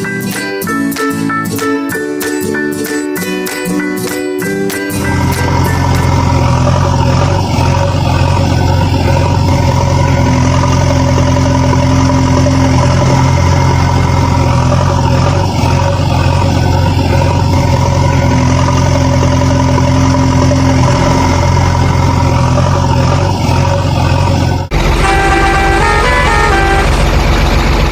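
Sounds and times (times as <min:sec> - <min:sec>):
engine idling with deep hum: 0:05.0 - 0:27.9.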